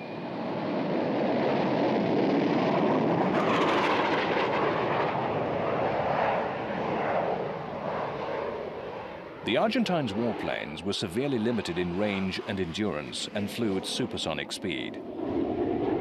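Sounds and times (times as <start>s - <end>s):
jet engine at takeoff: 0.0s - 16.0s.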